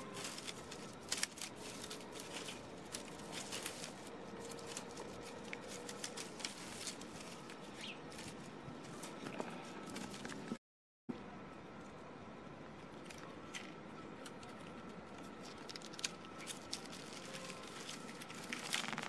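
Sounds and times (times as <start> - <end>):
twigs and leaves rustling: 0.0 - 10.6, 12.9 - 19.0.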